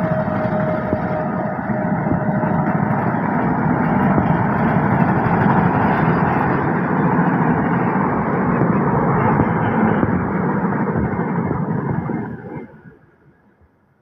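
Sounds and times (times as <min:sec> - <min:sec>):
train wheels rumbling on rails: 0:00.0 - 0:13.3.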